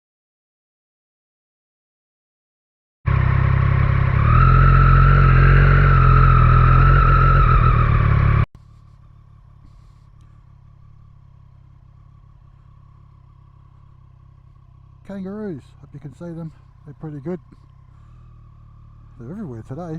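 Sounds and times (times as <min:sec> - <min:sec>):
faint engine and road noise: 0:03.1 - 0:19.9
motorcycle engine at high revs: 0:03.1 - 0:19.9.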